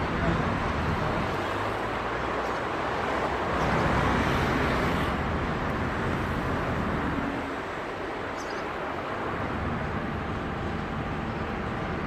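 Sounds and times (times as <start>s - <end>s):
background engines: 0.0s - 12.0s.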